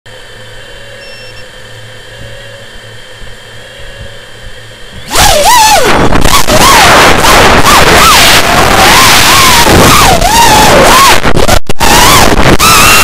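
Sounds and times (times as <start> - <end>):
drone motors humming: 0.1 - 13.0
loud drone motor whine: 0.1 - 13.0.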